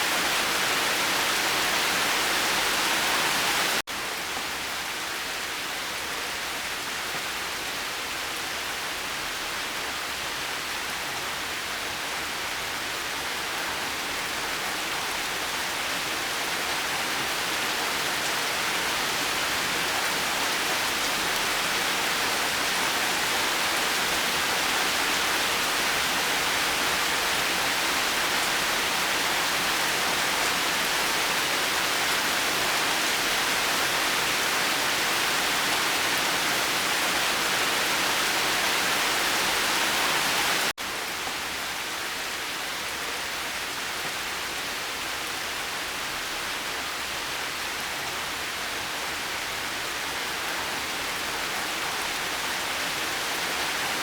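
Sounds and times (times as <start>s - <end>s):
steady rainfall hiss: 0.0s - 54.0s.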